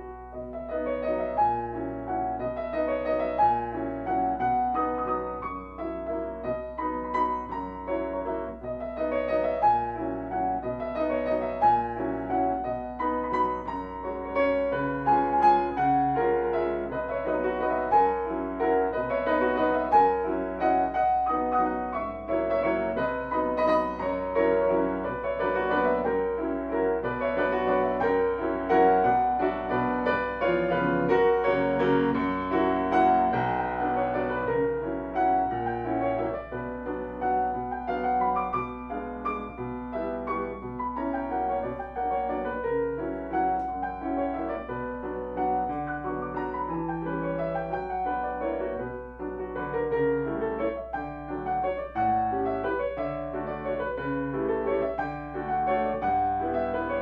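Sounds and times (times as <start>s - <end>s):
solo grand piano classical music: 0.0s - 57.0s.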